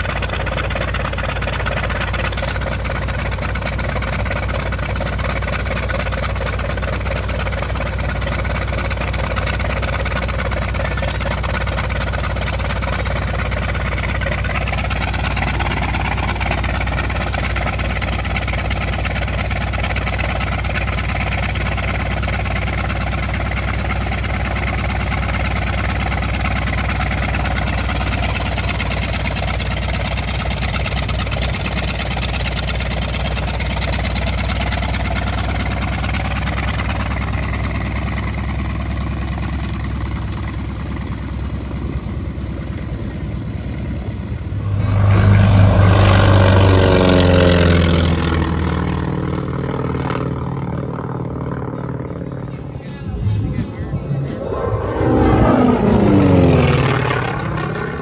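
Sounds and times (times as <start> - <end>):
radial aircraft engine running: 0.0 - 58.0.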